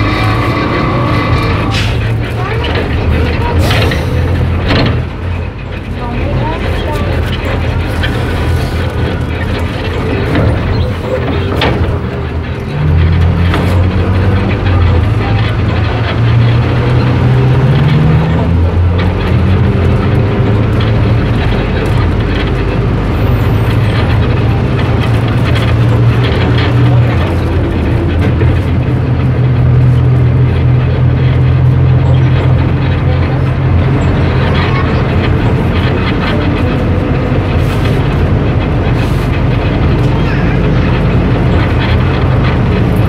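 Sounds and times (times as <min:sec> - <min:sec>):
bus engine humming: 0:00.0 - 0:43.0
road noise: 0:00.0 - 0:43.0.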